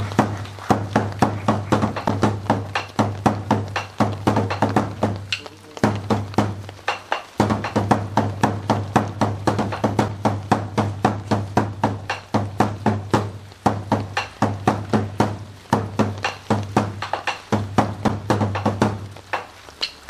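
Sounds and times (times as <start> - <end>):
taiko drum strikes: 0.0 - 19.6.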